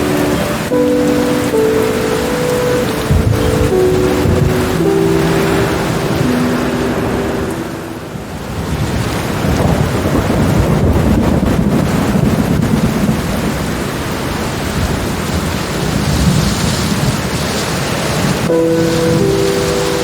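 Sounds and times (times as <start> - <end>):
steady rain: 0.0 - 20.0
thunder rumbling: 0.0 - 20.0.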